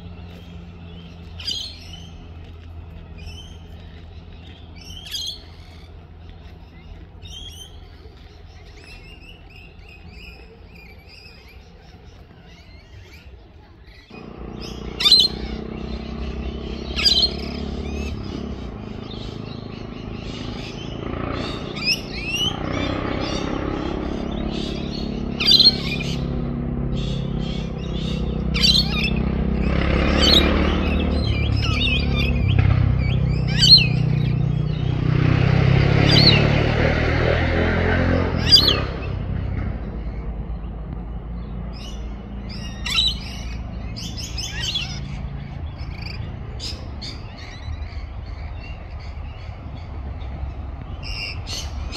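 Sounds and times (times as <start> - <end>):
birds chirping and calling: 0.0 - 51.9
deep steady background noise: 0.0 - 51.9.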